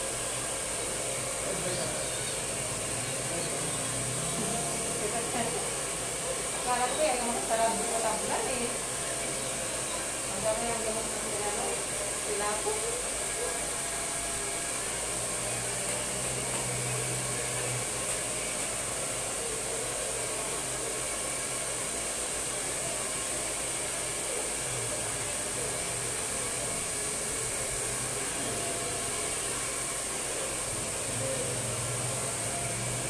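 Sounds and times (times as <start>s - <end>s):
hair dryer blowing: 0.0s - 33.0s.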